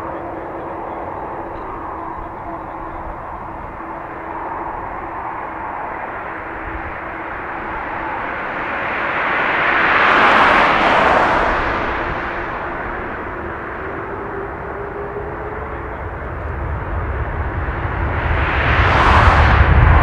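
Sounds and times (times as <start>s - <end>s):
jet engines roaring at takeoff: 0.0s - 20.0s.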